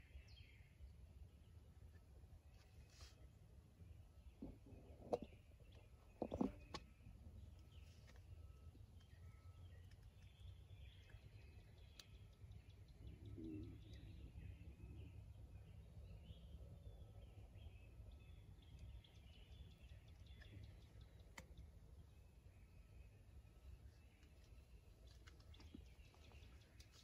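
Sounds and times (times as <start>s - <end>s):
faint songbird chirps: 0.0s - 27.0s.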